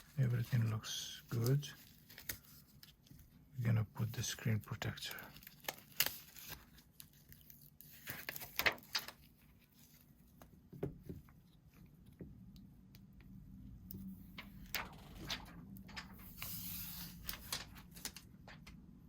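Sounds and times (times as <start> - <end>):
hands handling phone and plastic: 0.0 - 3.4, 5.3 - 13.3, 14.4 - 18.9.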